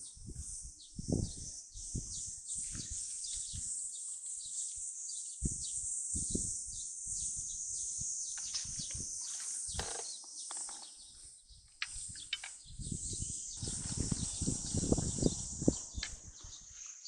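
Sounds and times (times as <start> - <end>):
birds chirping: 0.0 - 17.0
steady high-pitched hiss: 0.0 - 17.0.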